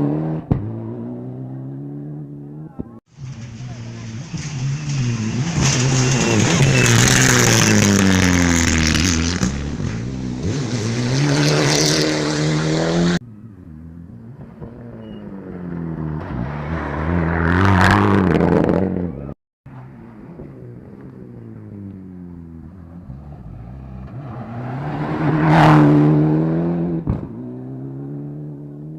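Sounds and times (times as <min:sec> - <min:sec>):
distant car engine: 0:00.0 - 0:28.9
rally car engines at full throttle: 0:00.0 - 0:28.9.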